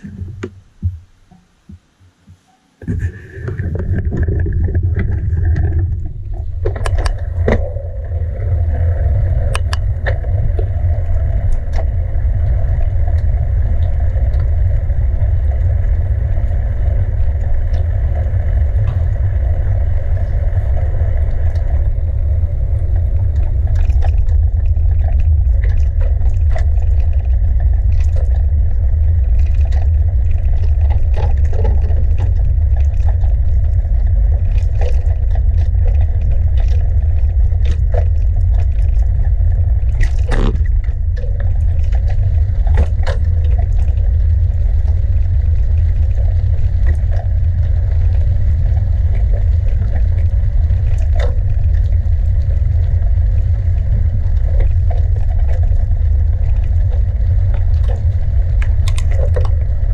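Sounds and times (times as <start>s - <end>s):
bicycle riding rumble: 2.8s - 59.9s.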